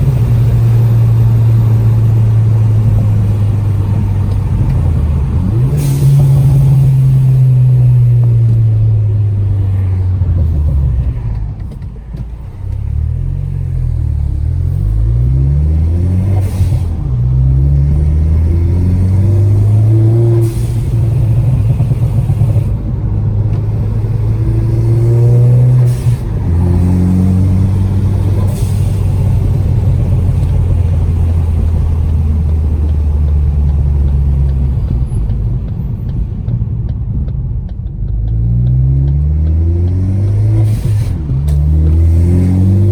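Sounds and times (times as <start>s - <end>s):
car engine revving: 0.0s - 42.9s
exhaust cracks: 0.0s - 42.9s.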